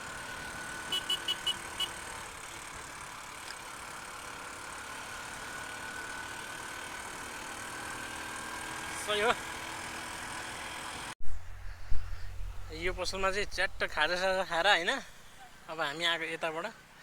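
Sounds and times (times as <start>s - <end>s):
vehicle engine idling: 0.0s - 15.8s.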